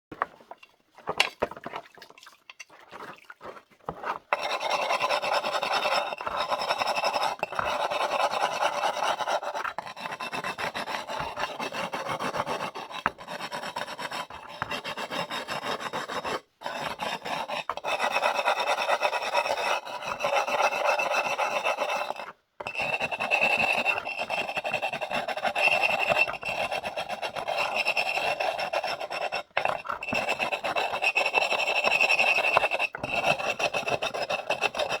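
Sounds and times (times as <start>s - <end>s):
abrasive scratching on stoneware: 2.4s - 35.0s.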